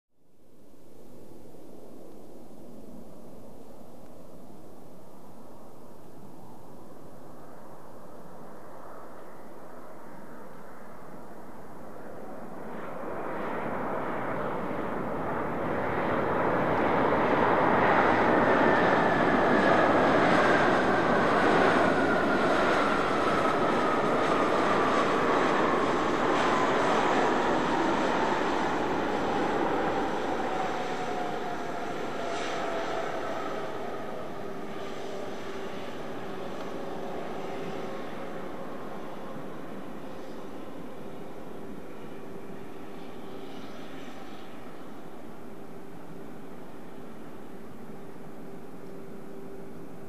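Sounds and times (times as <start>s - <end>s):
jet engine whine falling in pitch: 0.9s - 50.0s
jet airliner passing by: 1.5s - 50.0s.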